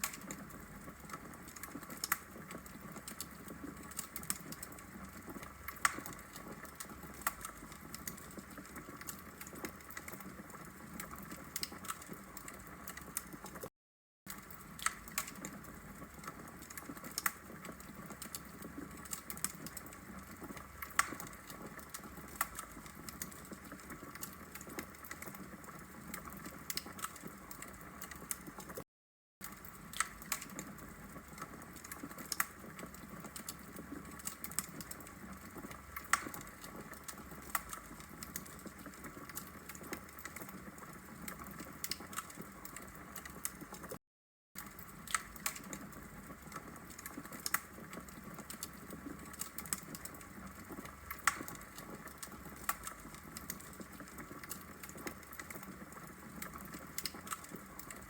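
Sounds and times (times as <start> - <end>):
fire crackling and popping: 0.0 - 13.7, 14.3 - 28.8, 29.4 - 44.0, 44.6 - 58.0.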